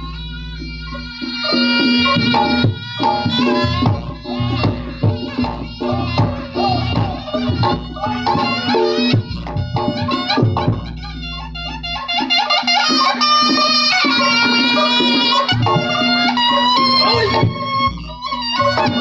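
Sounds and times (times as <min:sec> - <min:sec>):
hand drum strokes: 0:00.0 - 0:19.0
shrill reedy wind melody: 0:00.0 - 0:19.0.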